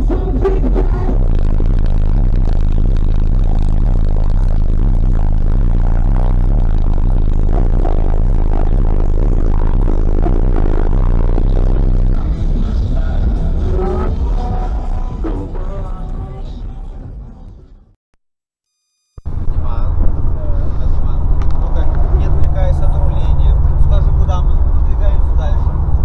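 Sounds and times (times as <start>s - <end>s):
bass-heavy music from car stereo: 0.0s - 17.9s, 19.2s - 26.0s.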